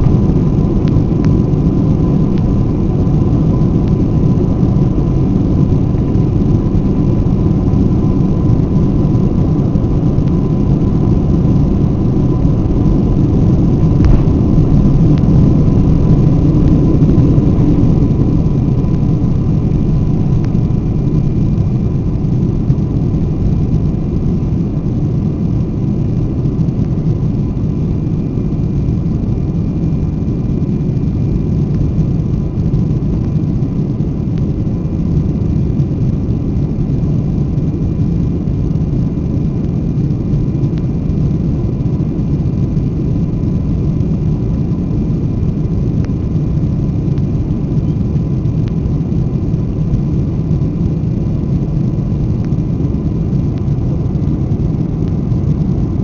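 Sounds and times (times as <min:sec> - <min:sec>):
jet engines roaring at takeoff: 0:00.0 - 0:56.0
thin steady whine: 0:00.0 - 0:56.0.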